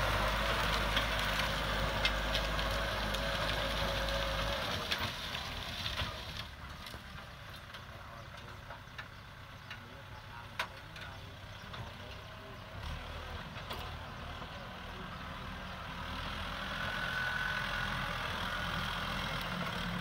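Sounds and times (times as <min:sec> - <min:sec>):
tractor diesel engine rumble: 0:00.0 - 0:20.0.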